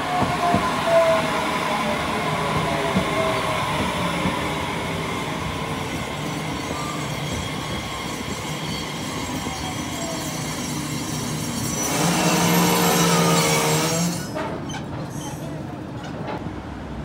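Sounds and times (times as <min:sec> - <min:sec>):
train rolling slowly: 0:00.0 - 0:17.0.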